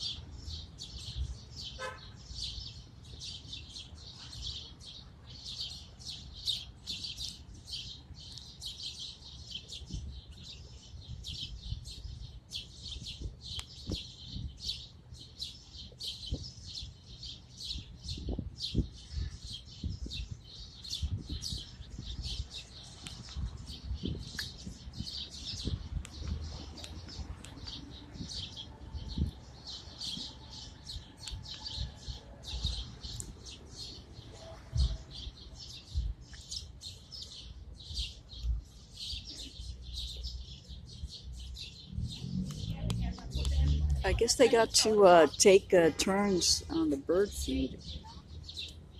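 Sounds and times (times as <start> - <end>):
flock of small birds chirping: 0.0 - 48.9.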